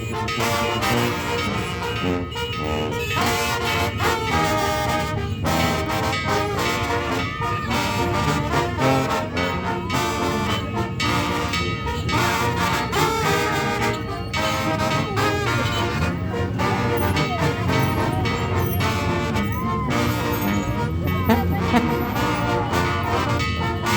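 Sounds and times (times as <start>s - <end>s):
brass band playing: 0.0s - 23.9s.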